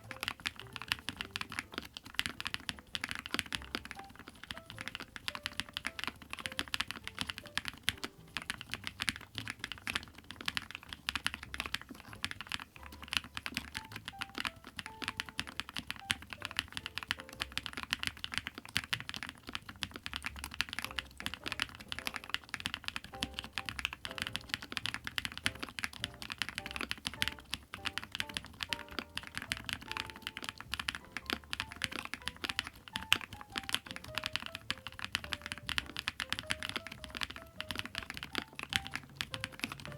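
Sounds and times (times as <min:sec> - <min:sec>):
mechanical keyboard typing: 0:00.0 - 0:39.9
soft background music: 0:00.0 - 0:39.9.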